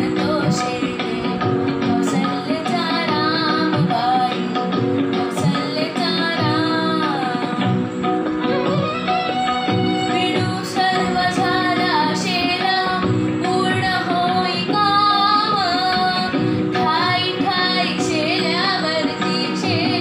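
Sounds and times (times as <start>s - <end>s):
girl singing: 0.0s - 7.8s, 8.5s - 20.0s
instrumental accompaniment: 0.0s - 20.0s.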